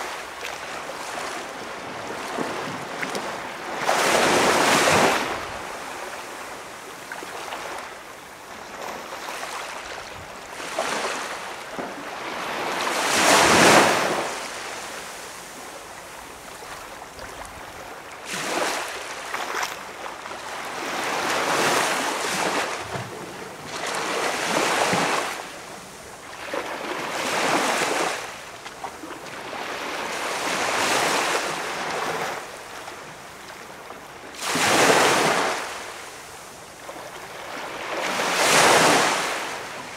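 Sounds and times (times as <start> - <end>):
small waves washing onto shore: 0.0 - 39.9.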